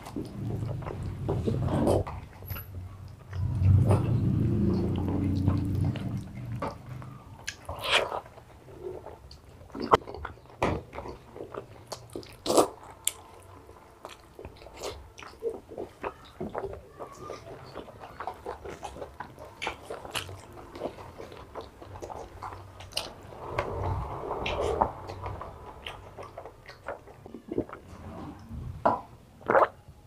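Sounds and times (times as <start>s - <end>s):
chewing with wet smacks: 0.0s - 28.5s, 29.4s - 29.8s.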